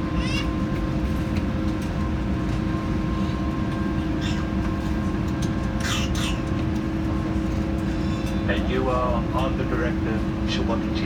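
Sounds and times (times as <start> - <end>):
airplane cabin rumble: 0.0 - 11.0
engine and air conditioning hum: 0.0 - 11.0.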